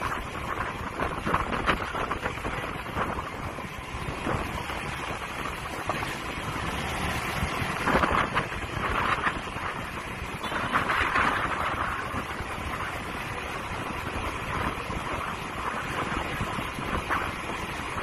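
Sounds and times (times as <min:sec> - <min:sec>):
motorbike engine: 0:00.0 - 0:18.0
street traffic: 0:00.0 - 0:18.0
wind buffeting microphone: 0:00.0 - 0:18.0.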